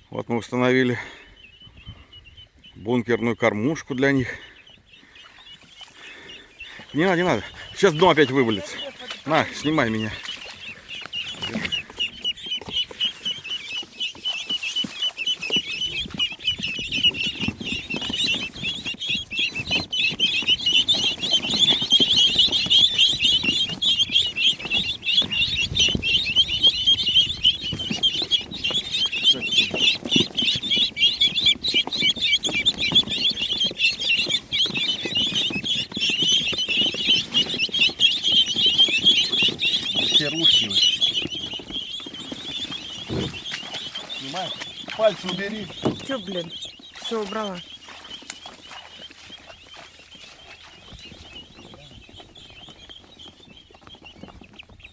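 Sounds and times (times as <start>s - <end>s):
ducklings peeping: 0.0s - 54.9s.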